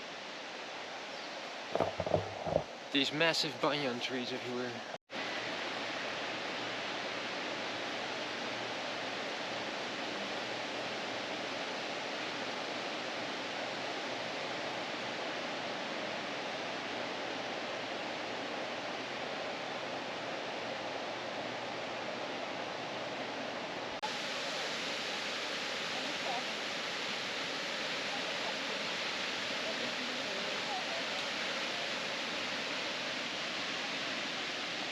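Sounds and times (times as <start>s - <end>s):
waterfall roaring: 1.6s - 34.9s.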